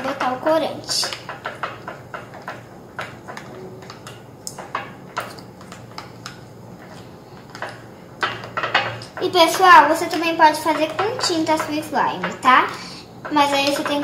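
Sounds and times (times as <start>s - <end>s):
spoon stirring slime in glass dish: 0.1s - 12.4s.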